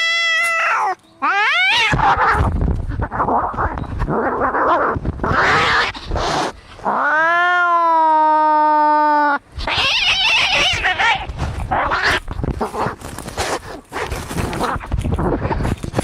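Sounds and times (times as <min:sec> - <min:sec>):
cats snarling and scuffling: 0:00.0 - 0:08.3, 0:09.6 - 0:16.0
cats yowling: 0:00.0 - 0:13.0.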